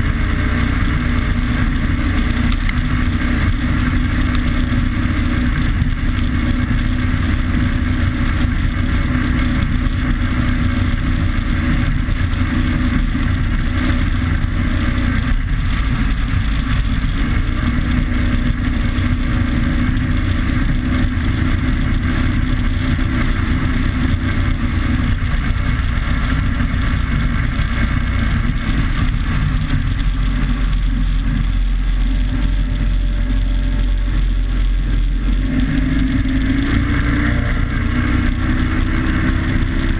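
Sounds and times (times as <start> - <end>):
boat engine drone: 0.0 - 39.9
rushing wind: 0.0 - 39.9
water rushing: 0.0 - 39.9.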